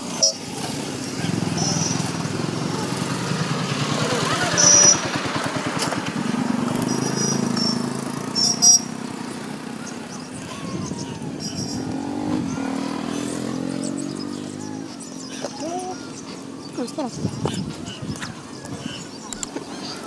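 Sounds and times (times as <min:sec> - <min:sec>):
motorcycle engine humming: 0:00.0 - 0:20.0.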